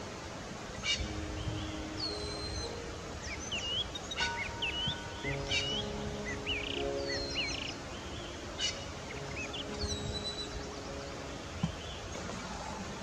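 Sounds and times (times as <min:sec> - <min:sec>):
faint music: 0:00.0 - 0:13.0
outdoor background noise: 0:00.0 - 0:13.0.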